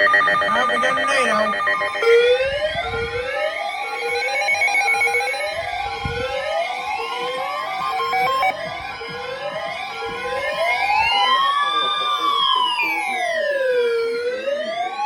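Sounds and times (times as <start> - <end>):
rising whooping alert siren: 0.0 - 15.0
sweeping and steady alarm tones: 0.0 - 15.0.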